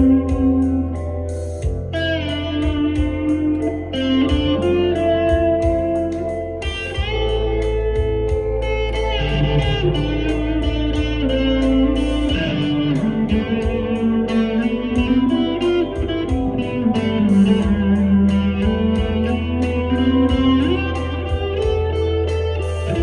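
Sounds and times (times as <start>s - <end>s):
electric guitar lead line: 0.0s - 23.0s
low sustained bass: 0.0s - 23.0s
steady beat with ticks: 0.0s - 23.0s.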